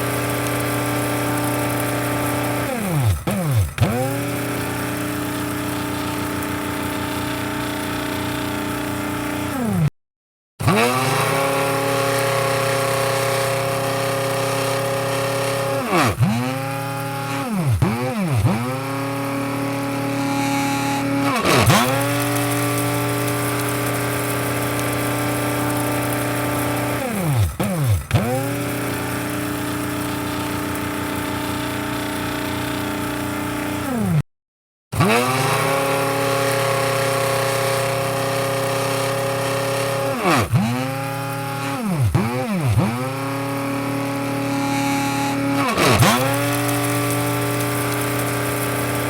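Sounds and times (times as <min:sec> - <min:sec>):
coffee grinder motor whining: 0:00.0 - 0:09.9, 0:10.6 - 0:34.2, 0:35.0 - 0:49.0.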